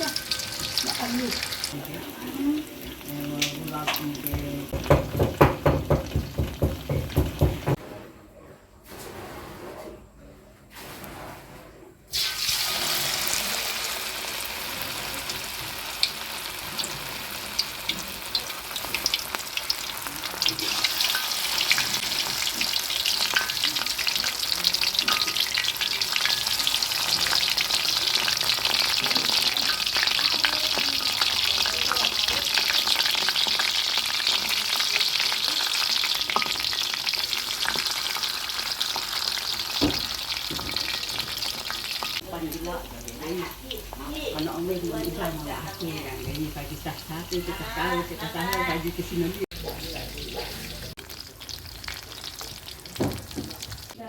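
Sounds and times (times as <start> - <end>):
food frying in hot oil: 0.0 - 7.8, 12.1 - 54.0.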